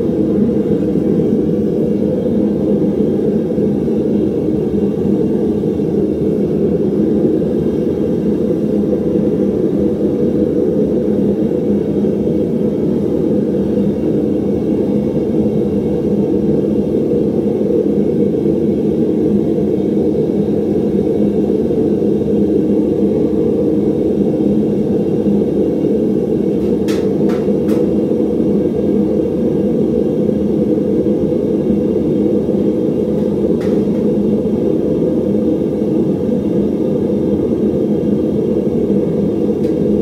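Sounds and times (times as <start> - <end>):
furnace burner rumble: 0.0 - 40.0.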